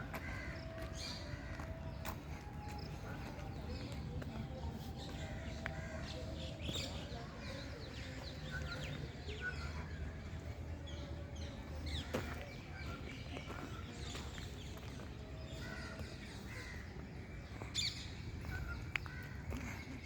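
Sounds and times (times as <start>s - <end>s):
birds chirping and calling: 0.0s - 20.0s.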